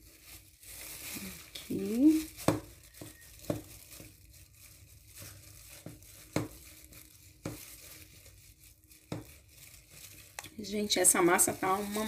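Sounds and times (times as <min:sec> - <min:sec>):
plastic gloves and film rustling: 0:00.0 - 0:12.0.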